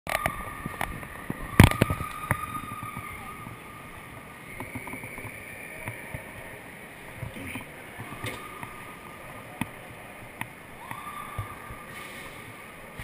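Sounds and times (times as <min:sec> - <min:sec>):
echoing amusement park din: 0:00.1 - 0:13.0.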